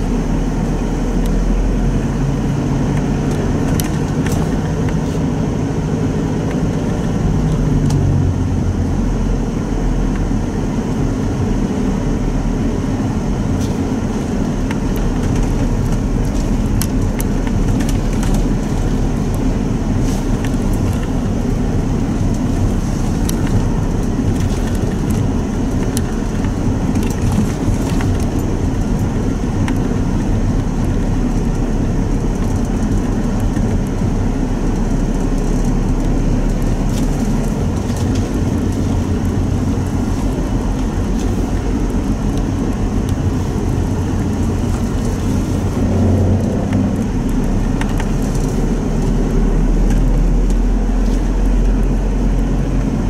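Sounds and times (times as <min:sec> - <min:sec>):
diesel engine running: 0:00.0 - 0:53.0
tyres rolling on snow: 0:00.0 - 0:53.0.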